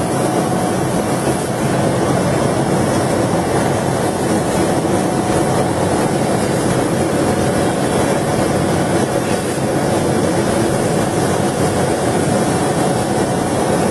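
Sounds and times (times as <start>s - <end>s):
laser cutting machine drone: 0.0s - 13.9s.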